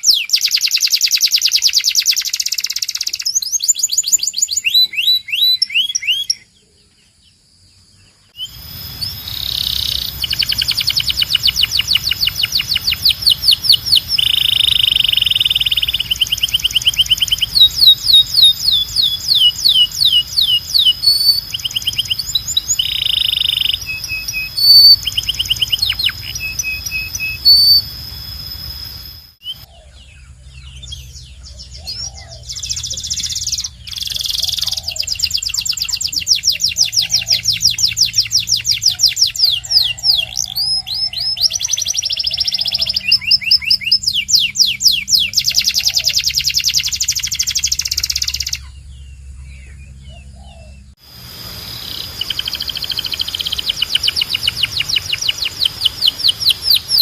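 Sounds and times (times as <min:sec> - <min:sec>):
canary singing trills: 0:00.0 - 0:07.2, 0:08.0 - 0:57.0.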